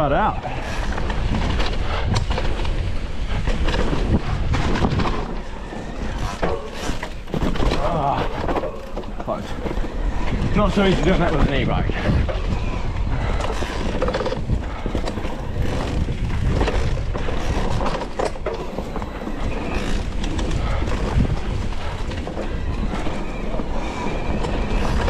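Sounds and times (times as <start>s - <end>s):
tyres rumbling on dirt: 0.0s - 25.0s
bike knocks and rattles: 0.6s - 12.5s, 13.3s - 25.0s.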